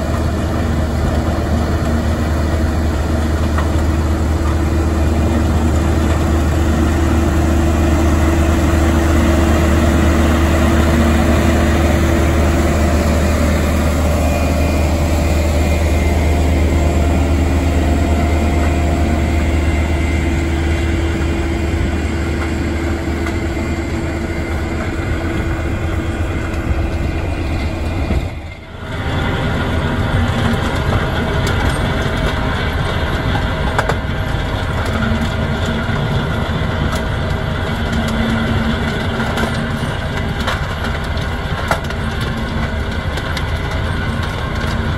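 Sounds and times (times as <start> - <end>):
machine grinding soil: 0.0 - 44.9
tractor diesel engine under load: 0.0 - 44.9.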